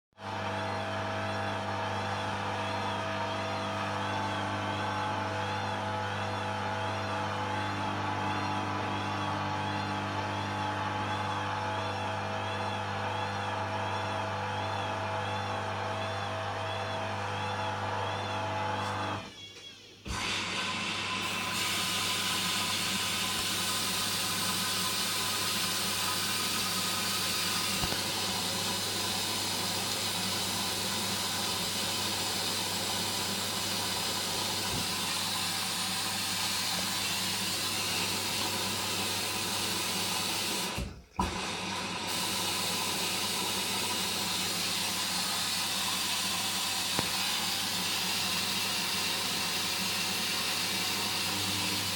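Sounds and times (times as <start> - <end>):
washing machine motor hum: 0.2 - 19.3, 20.0 - 51.9.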